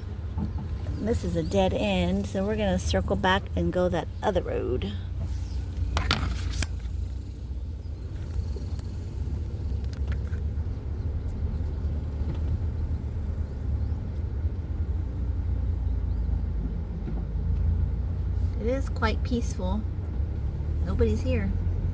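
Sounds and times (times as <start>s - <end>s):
car engine and tyres rumbling: 0.0s - 21.9s.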